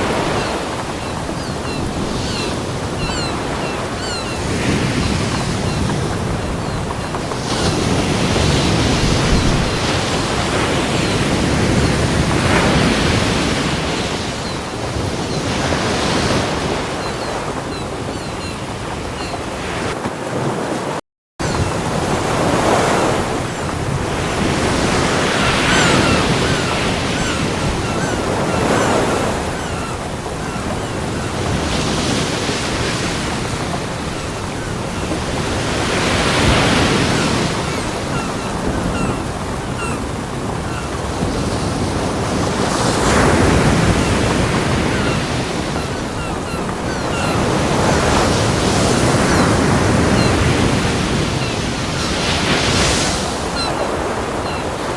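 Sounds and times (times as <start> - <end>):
ocean waves crashing on beach: 0.0 - 54.9.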